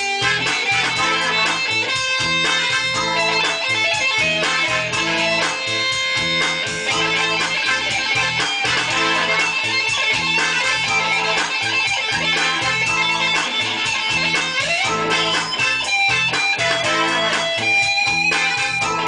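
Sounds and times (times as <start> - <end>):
guitar music: 0.0 - 19.0
rhythmic bass line: 0.0 - 19.0.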